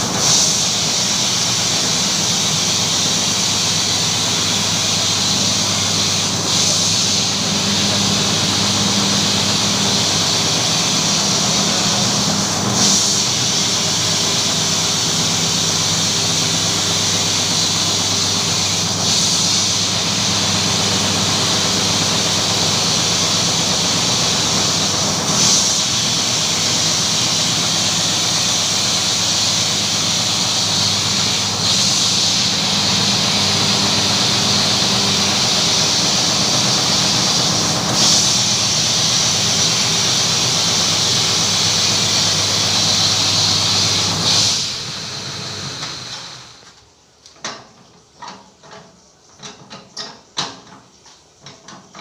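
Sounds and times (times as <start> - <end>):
carpet-washing machine running: 0.0 - 52.0.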